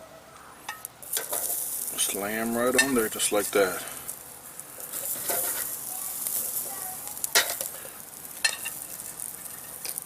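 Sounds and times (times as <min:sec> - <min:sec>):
food sizzling on a grill: 0:00.7 - 0:10.0
sharp clicks on grill: 0:00.7 - 0:10.0.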